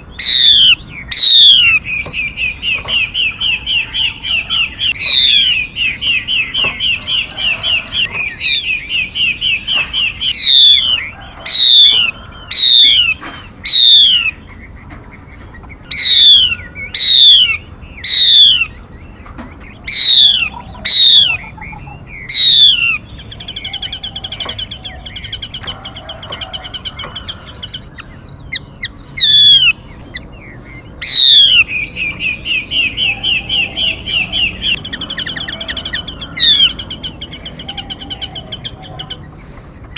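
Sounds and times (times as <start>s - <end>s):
songbird calls: 0.0s - 39.9s.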